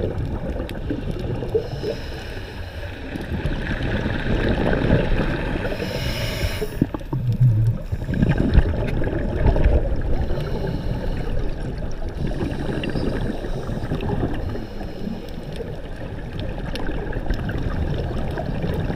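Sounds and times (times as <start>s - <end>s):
sea water rushing and gurgling: 0.0s - 18.9s.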